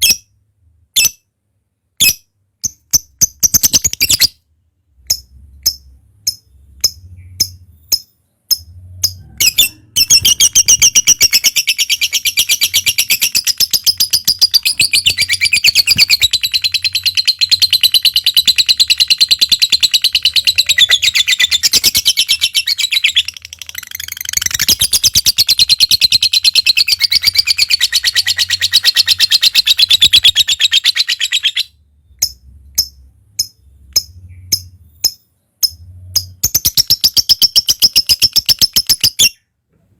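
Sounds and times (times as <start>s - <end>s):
lovebird chirps: 2.0s - 4.4s, 5.0s - 39.6s.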